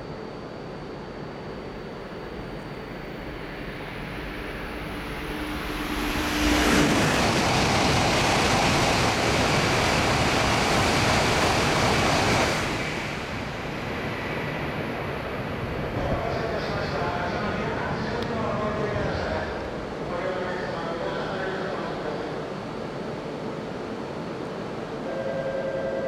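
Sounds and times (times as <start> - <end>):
high-speed train rushing past: 0.0 - 26.0.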